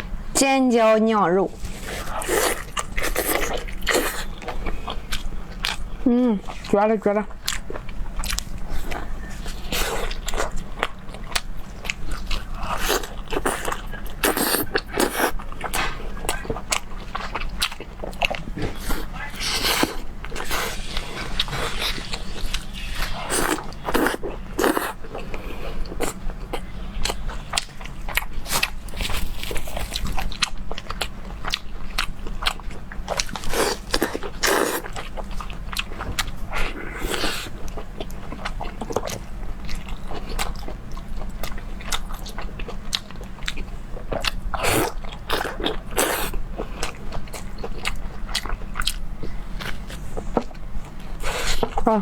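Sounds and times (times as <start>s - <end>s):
steady low hum: 0.0s - 52.0s
person chewing with clicks: 2.0s - 6.8s, 7.4s - 51.9s.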